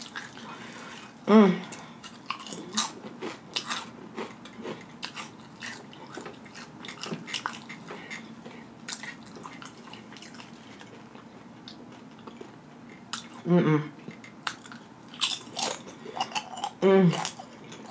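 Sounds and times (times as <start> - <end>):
close chewing and lip smacking: 0.0 - 17.9.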